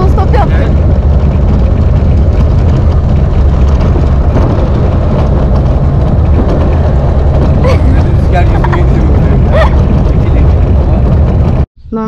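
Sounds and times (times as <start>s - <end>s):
truck engine and tyre rumble: 0.0s - 11.7s
wind buffeting microphone: 0.0s - 11.7s.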